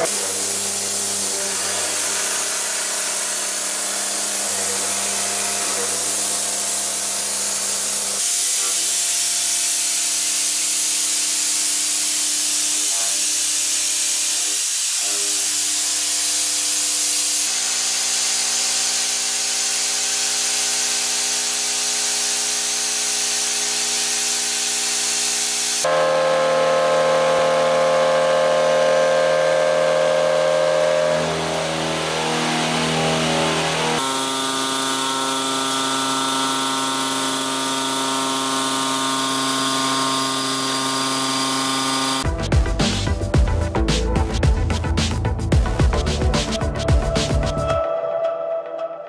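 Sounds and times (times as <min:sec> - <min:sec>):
milling cutter humming on steel: 0:00.0 - 0:42.4.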